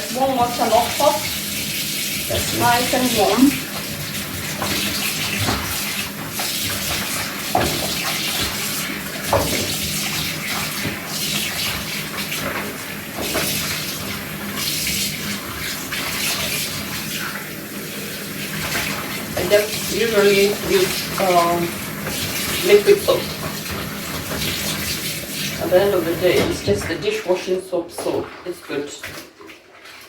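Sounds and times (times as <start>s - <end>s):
water running from a tap: 0.0s - 30.0s.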